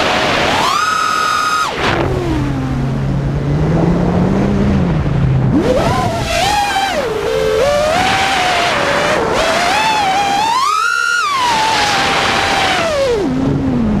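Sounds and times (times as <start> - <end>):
drone motors whining: 0.0 - 14.0
wind rush: 0.0 - 14.0.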